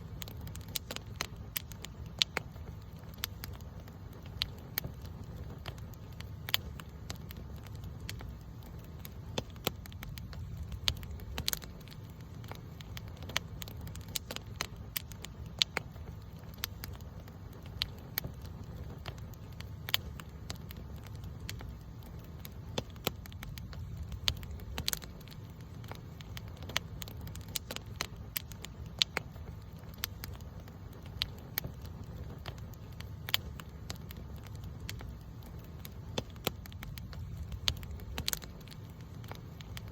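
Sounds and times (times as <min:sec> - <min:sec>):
campfire crackling and popping: 0:00.0 - 0:39.9
low rumble of burning: 0:00.0 - 0:39.9.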